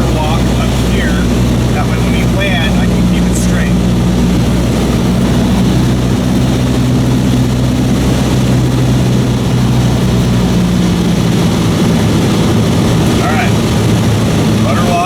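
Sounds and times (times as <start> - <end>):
airplane engine droning in cabin: 0.0 - 15.0.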